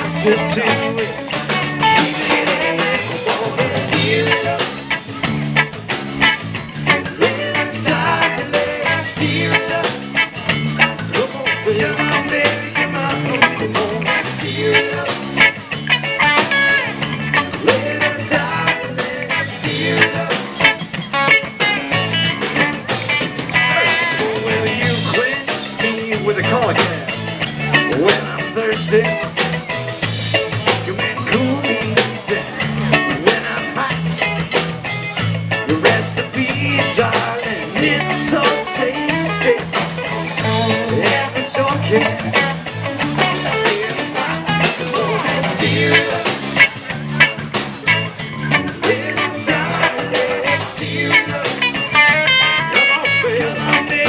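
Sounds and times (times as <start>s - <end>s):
live ska band playing: 0.0s - 54.0s.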